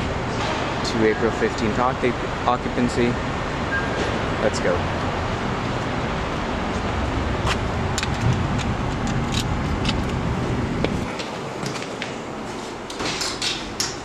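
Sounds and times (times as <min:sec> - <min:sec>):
city street traffic rumble: 0:00.0 - 0:14.0.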